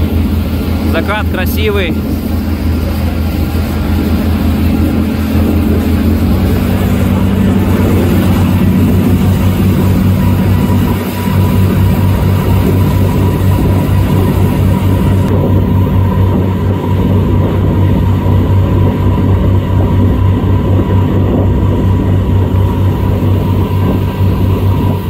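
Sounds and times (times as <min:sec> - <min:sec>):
motorboat engine droning: 0:00.0 - 0:25.0.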